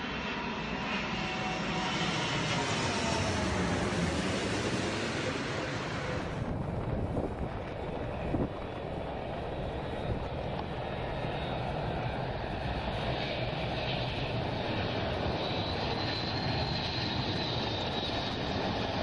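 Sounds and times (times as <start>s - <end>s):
high engine whine: 0.0s - 19.0s
jet engines rushing: 0.0s - 19.0s.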